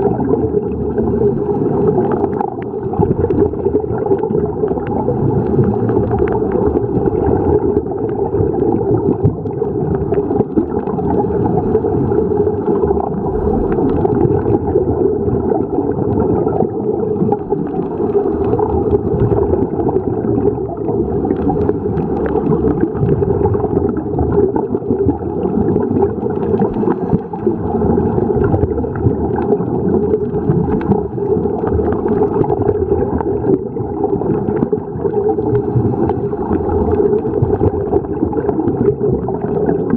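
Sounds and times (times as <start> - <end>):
muffled underwater rumble: 0.0 - 39.9
regulator bubbles gurgling: 0.0 - 39.9.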